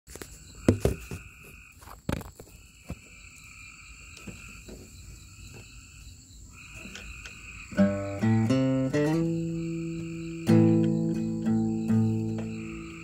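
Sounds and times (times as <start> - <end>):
frogs trilling: 0.4 - 13.0.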